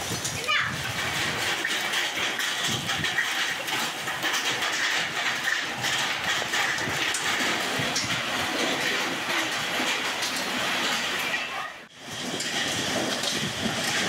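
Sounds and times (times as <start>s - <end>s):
hail clattering: 0.0s - 14.0s
heavy rain: 0.0s - 14.0s.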